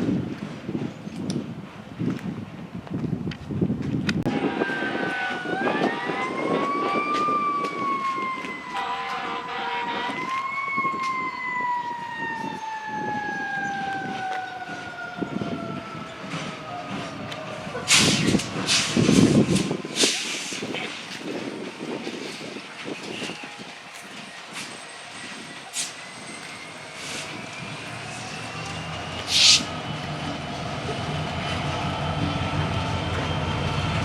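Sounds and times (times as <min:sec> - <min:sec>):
emergency vehicle siren wailing: 0:04.3 - 0:34.0.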